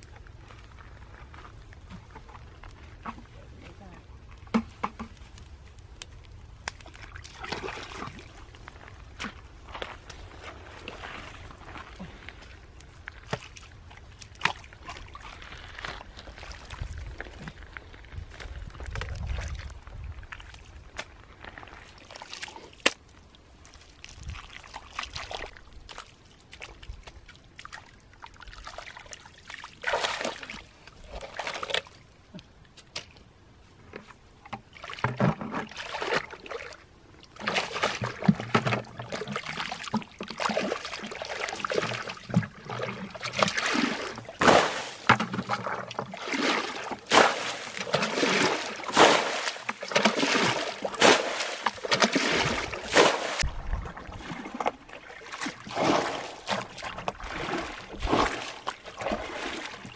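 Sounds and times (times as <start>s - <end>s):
bucket splashing pond water: 6.6s - 17.7s, 20.3s - 32.0s, 34.4s - 59.9s.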